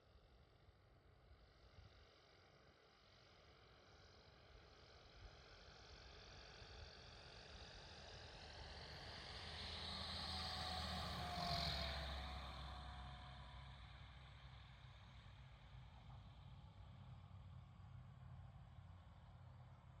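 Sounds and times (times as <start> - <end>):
light aircraft engine passing by: 1.4 - 20.0.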